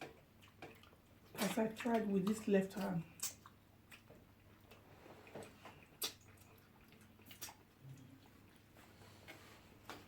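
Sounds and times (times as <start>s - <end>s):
clicks and smacks of eating: 0.0s - 10.0s.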